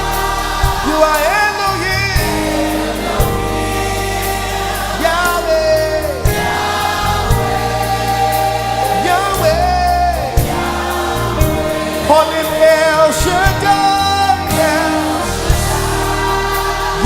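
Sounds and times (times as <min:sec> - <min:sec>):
bass: 0:00.0 - 0:17.0
gospel choir singing: 0:00.0 - 0:17.0
keyboard: 0:00.0 - 0:17.0.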